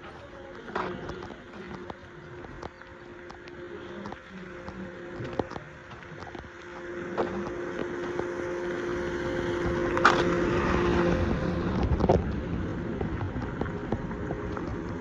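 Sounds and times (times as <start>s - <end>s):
vehicle engine whine: 0.0s - 15.0s
wind noise on microphone: 0.0s - 15.0s.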